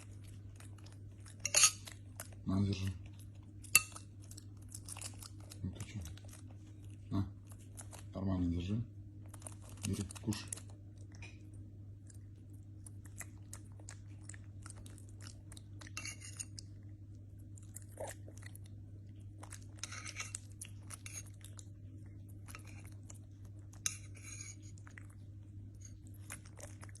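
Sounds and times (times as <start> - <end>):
monkey chewing and crunching food: 0.0 - 27.0
steady low hum: 0.0 - 27.0.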